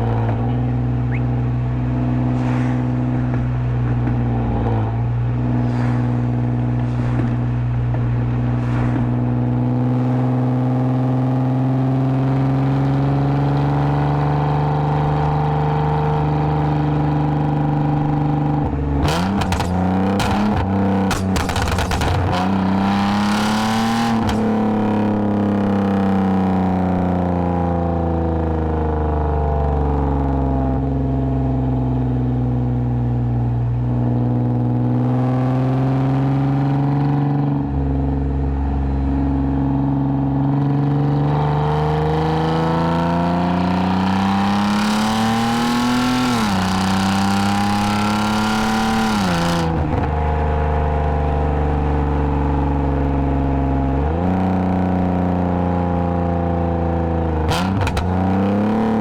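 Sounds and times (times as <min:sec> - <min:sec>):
car engine exhaust accelerating: 0:00.0 - 0:59.0.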